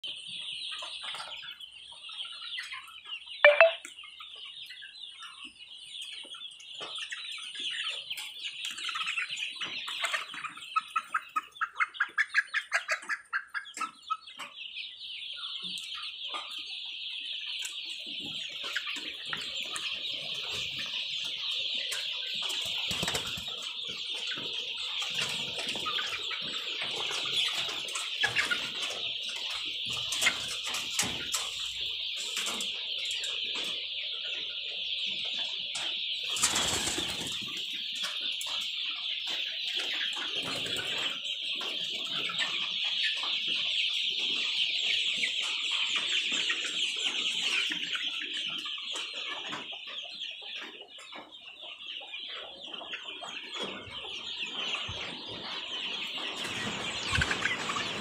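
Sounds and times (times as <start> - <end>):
chicks peeping and chirping: 0.0 - 58.0
loud clucks: 5.2 - 58.0.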